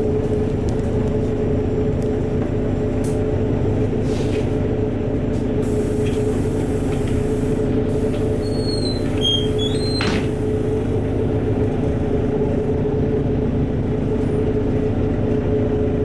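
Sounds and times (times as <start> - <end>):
bus engine humming: 0.0 - 16.0
road rumble: 0.0 - 16.0.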